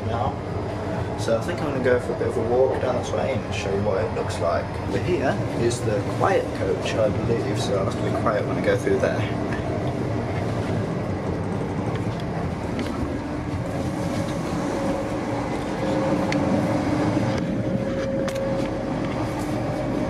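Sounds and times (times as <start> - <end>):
high hum: 0.0 - 20.0
low hum: 0.0 - 20.0
train interior rumble: 0.0 - 20.0.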